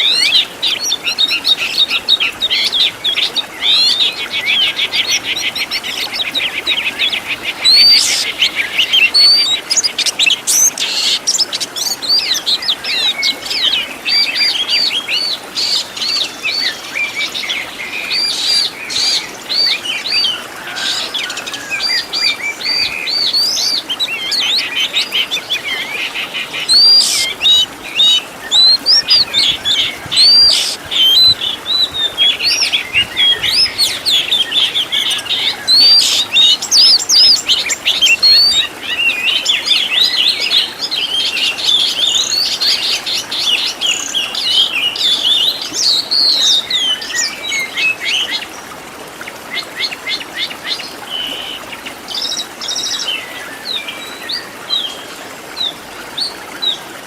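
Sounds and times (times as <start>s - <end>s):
songbird singing varied song: 0.0s - 47.8s.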